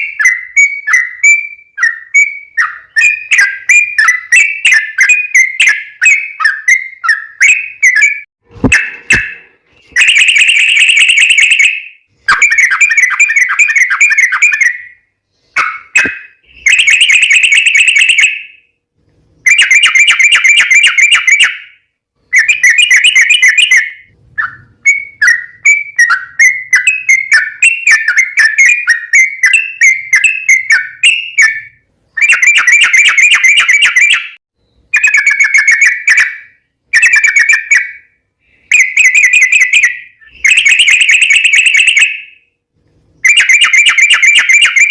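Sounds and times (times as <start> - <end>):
bulbul warbling song: 0.0 - 18.6, 19.5 - 38.1, 38.7 - 42.4, 43.2 - 44.9.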